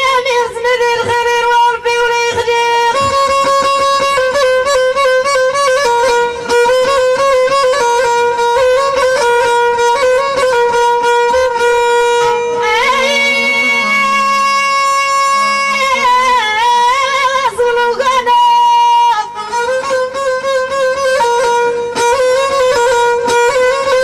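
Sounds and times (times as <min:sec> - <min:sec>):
violin melody: 0:00.0 - 0:24.0.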